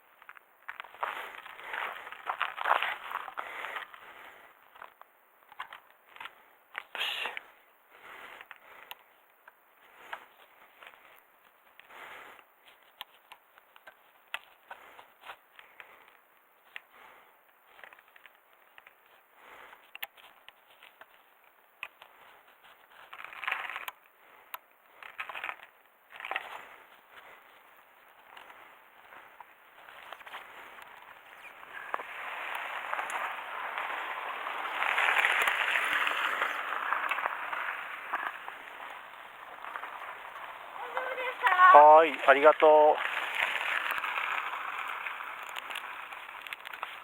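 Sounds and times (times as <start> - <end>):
bike tyres crunching on gravel: 0.0 - 47.0.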